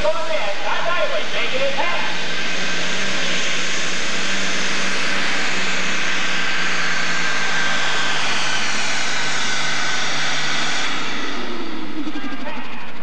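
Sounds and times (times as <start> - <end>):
tractor engine roaring with whine: 0.0 - 13.0.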